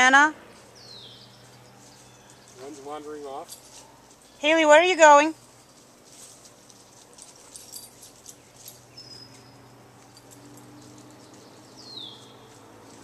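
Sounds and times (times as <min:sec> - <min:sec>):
leaves and twigs rustling: 0:00.5 - 0:13.0.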